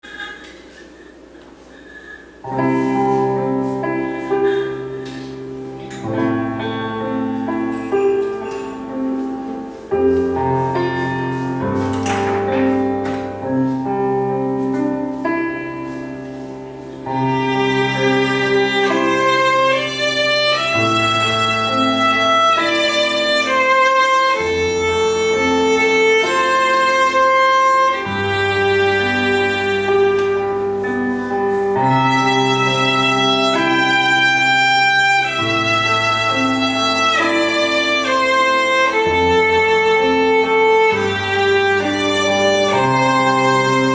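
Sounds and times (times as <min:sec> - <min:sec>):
piano bass notes: 0:00.0 - 0:43.9
bowed string melody: 0:02.4 - 0:43.9.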